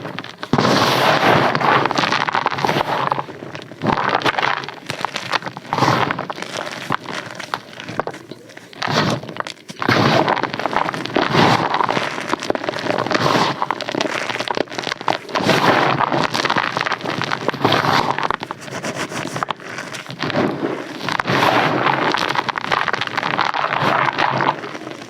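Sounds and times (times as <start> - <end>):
close crunching and crackling: 0.0 - 25.0.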